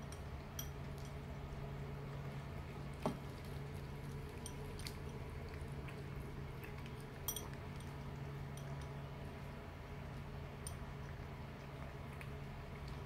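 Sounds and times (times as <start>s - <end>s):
cats chewing and licking wet food: 0.0s - 13.0s
faint low hum: 0.0s - 13.0s.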